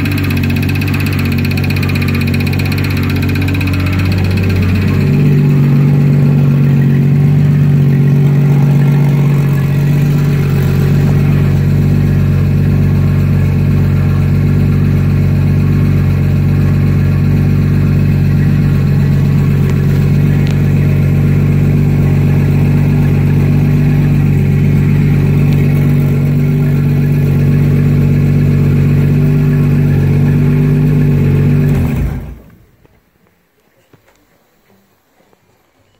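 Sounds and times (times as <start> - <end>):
engine winding down: 0.0 - 32.8
car engine idling: 0.0 - 32.9.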